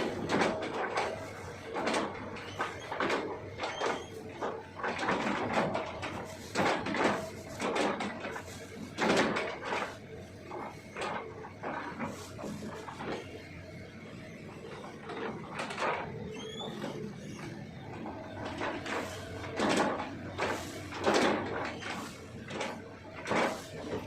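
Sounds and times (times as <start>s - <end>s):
excavator bucket crunching wood: 0.0s - 24.0s.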